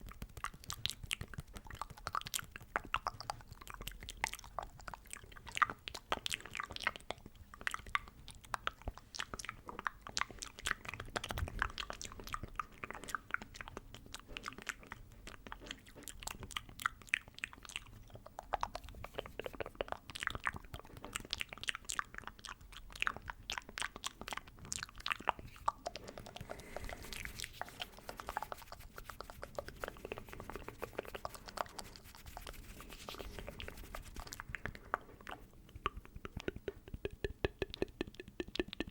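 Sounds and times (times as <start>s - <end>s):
wet mouth clicks and lip smacks: 0.0s - 38.9s.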